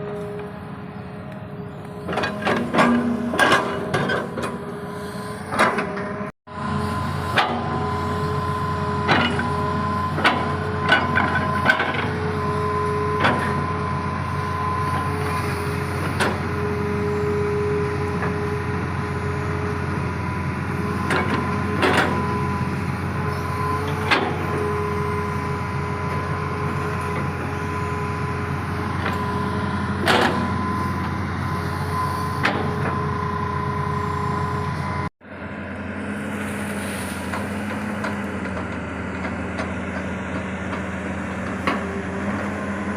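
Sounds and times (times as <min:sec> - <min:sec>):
excavator diesel engine: 0:00.0 - 0:42.9.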